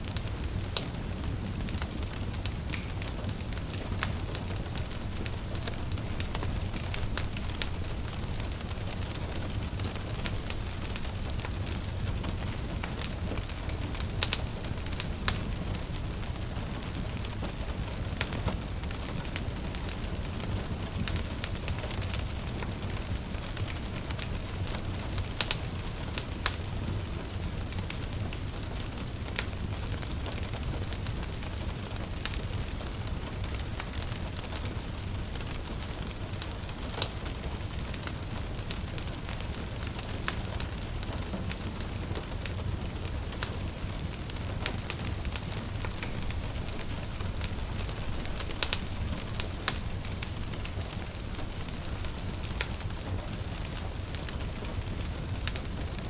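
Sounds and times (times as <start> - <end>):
gentle steady rain: 0.0 - 56.0
wood fire crackling and popping: 0.0 - 56.0.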